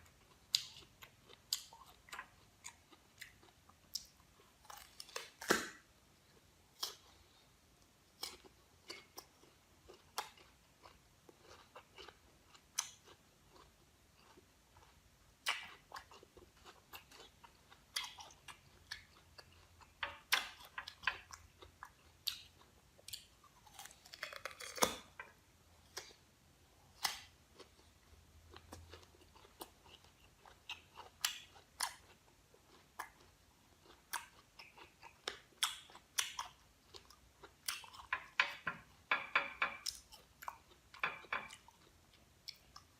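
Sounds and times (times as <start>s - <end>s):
fruit being bitten and chewed: 0.0s - 7.3s, 8.1s - 38.4s.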